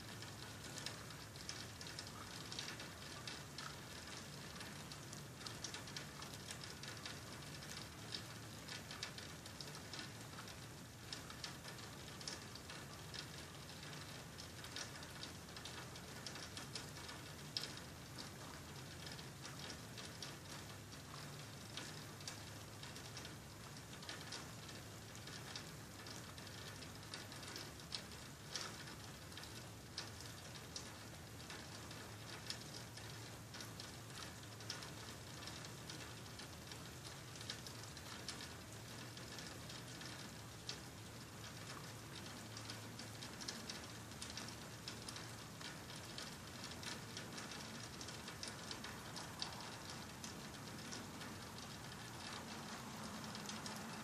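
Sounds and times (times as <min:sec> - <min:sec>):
rain falling: 0:00.0 - 0:54.0
raindrops ticking: 0:00.0 - 0:54.0.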